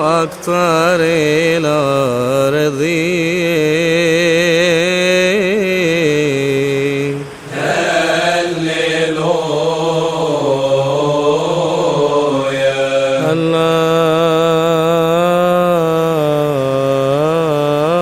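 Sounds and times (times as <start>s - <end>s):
man chanting wordless melody: 0.0s - 18.0s.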